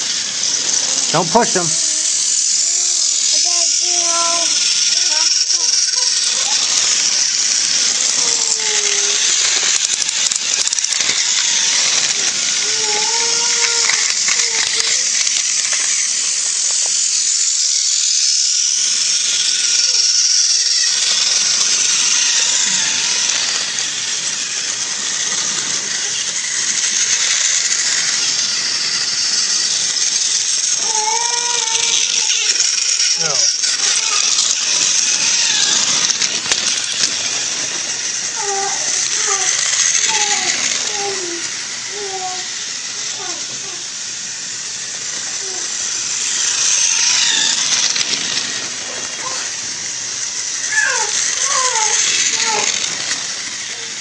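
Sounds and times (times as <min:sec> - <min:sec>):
toy train rattling on track: 0:00.0 - 0:54.0.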